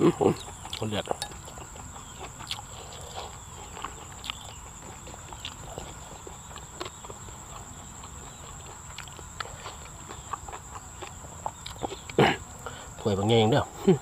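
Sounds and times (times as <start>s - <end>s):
man chewing: 0.0s - 12.9s.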